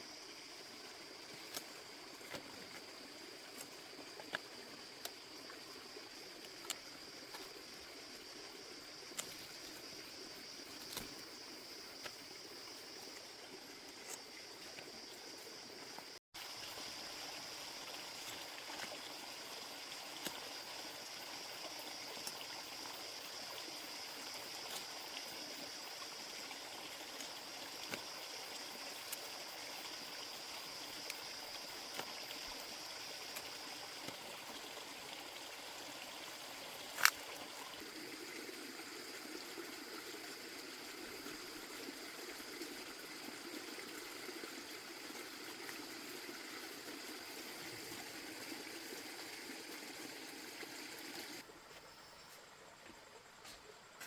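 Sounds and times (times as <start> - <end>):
water running and trickling: 0.2 - 51.5.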